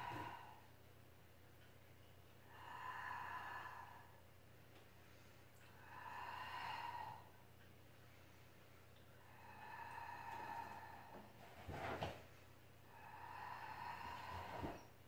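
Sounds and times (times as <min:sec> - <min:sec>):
woman breathing: 0:00.0 - 0:00.9, 0:02.4 - 0:15.0
faint steady hum: 0:00.0 - 0:15.0.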